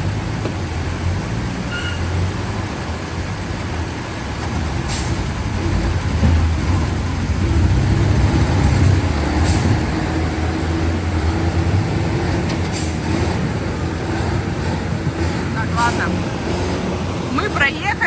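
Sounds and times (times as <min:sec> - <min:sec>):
continuous rush of noise: 0:00.0 - 0:18.0
vehicle engine running at low revs: 0:00.0 - 0:18.0.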